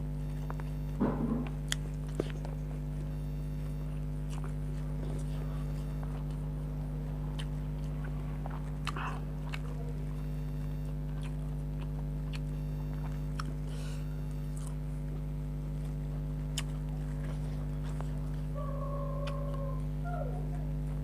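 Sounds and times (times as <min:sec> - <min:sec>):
low electrical hum: 0:00.0 - 0:21.0
person chewing food: 0:00.2 - 0:20.0.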